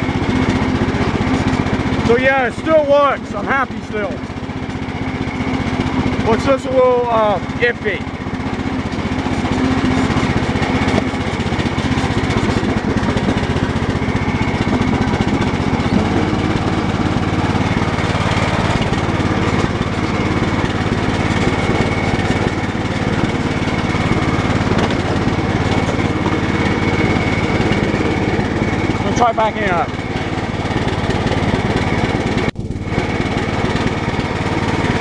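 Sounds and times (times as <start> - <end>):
lawn tractor engine running: 0.0 - 35.0.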